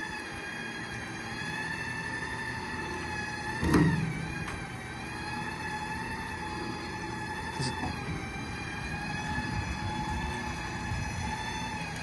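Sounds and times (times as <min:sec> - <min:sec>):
winch motor whining: 0:00.0 - 0:12.0.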